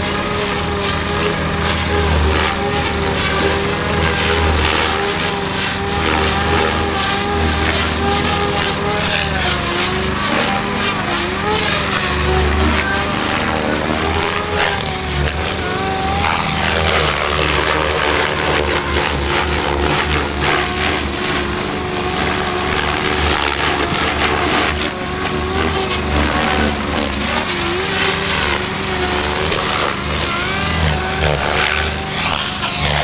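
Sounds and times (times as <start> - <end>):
helicopter rotor blades chopping: 0.0 - 33.0
rotor whine: 0.0 - 33.0.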